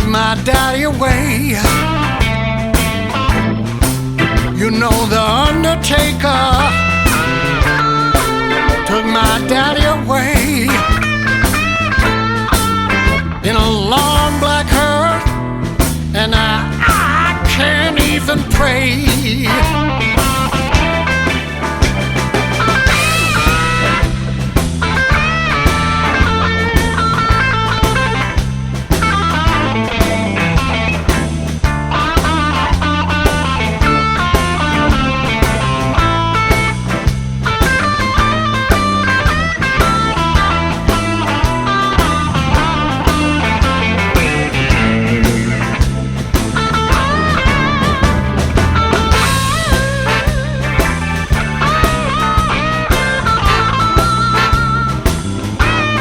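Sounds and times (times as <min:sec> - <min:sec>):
bass: 0:00.0 - 0:56.0
electric guitar lead: 0:00.0 - 0:56.0
steady drum beat: 0:00.0 - 0:56.0.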